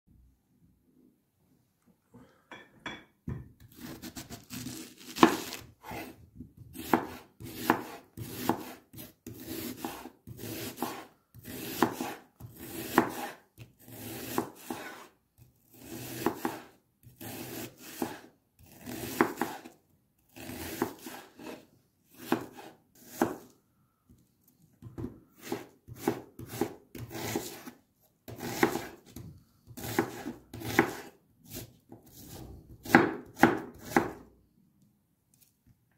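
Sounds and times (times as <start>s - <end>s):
knife slicing onion on wooden board: 3.3s - 23.6s, 24.8s - 34.3s.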